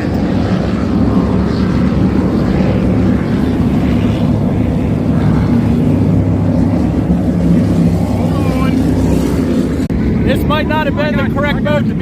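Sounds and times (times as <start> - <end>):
motorboat engine droning: 0.0 - 12.0
water noise: 0.0 - 12.0
wind noise: 0.0 - 12.0.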